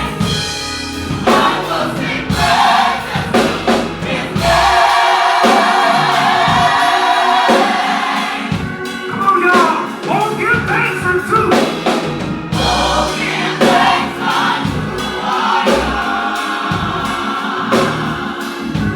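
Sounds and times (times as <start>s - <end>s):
gospel choir singing: 0.0s - 18.9s
musical accompaniment: 0.0s - 18.9s.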